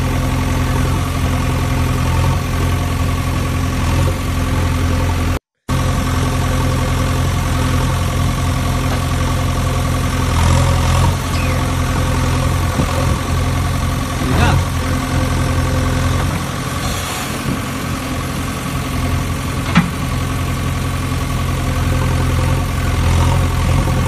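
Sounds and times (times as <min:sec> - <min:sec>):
steady engine-like hum: 0:00.0 - 0:24.0.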